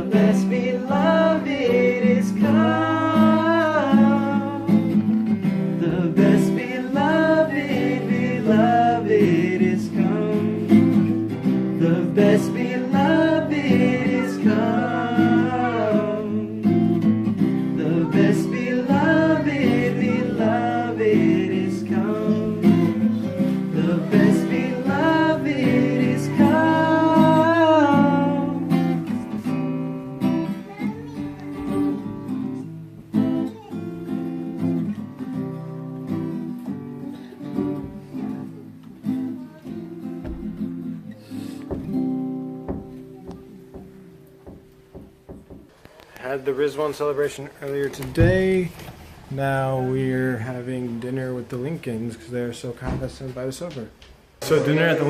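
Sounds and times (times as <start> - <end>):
person singing: 0.0 - 44.6
acoustic guitar strumming: 0.0 - 52.6.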